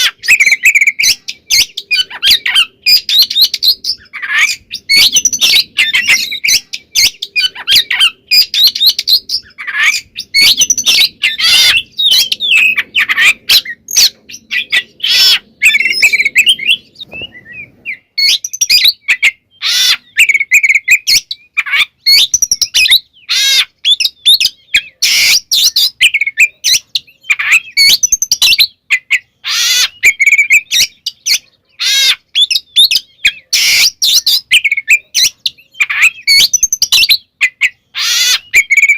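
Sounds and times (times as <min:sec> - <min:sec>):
bird singing varied phrases: 0:00.0 - 0:38.9.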